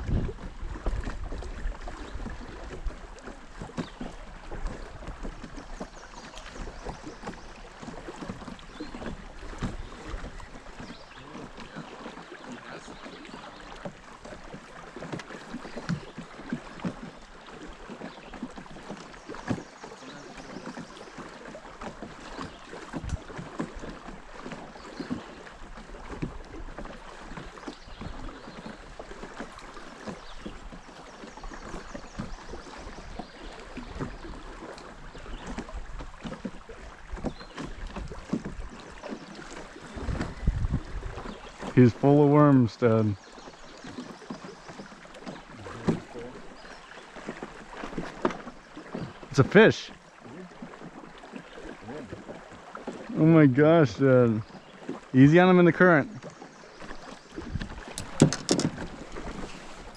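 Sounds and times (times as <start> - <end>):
knocks and splashes: 0.0 - 59.9
water lapping against boat: 0.0 - 59.9.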